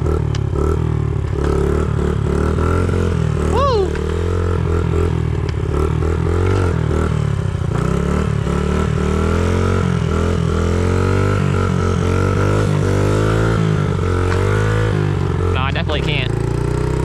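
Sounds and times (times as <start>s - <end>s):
dirt bike engine running hard: 0.0s - 17.0s.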